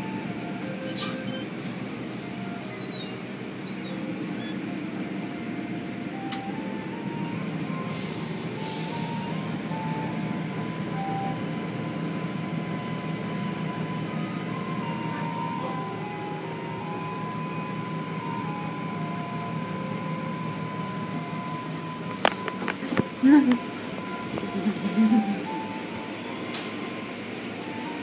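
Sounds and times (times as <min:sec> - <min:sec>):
car wash water spray and machinery: 0:00.0 - 0:28.0.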